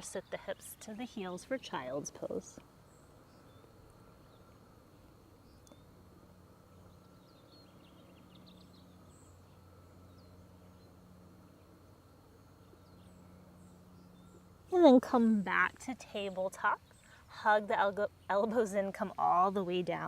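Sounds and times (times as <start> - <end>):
faint bird chirps: 0.0 - 6.0, 6.6 - 18.5
faint steady low hum: 0.0 - 20.0.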